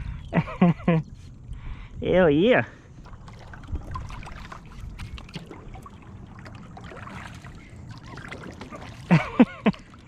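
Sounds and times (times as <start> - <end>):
wind and water noise: 0.0 - 10.0.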